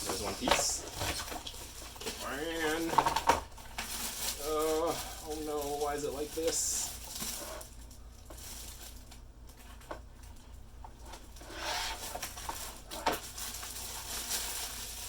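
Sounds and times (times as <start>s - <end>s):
packaging rustle: 0.0s - 10.4s, 11.0s - 15.0s.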